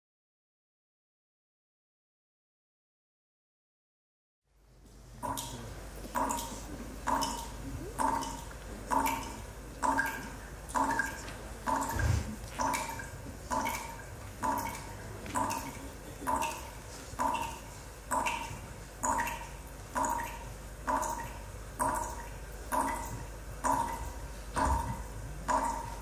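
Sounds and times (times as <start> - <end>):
low steady hum: 4.5 - 26.0.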